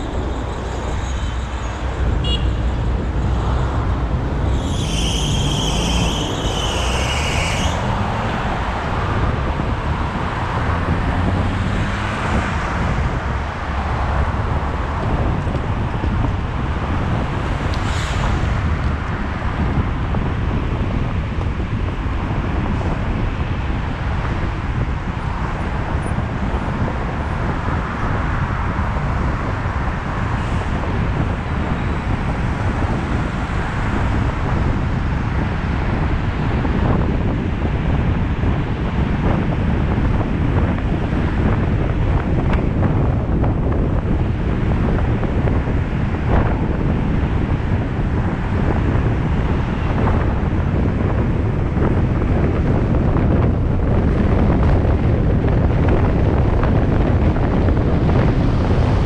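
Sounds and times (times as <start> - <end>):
car road and wind noise: 0.0 - 59.0
wind buffeting microphone: 0.0 - 59.0.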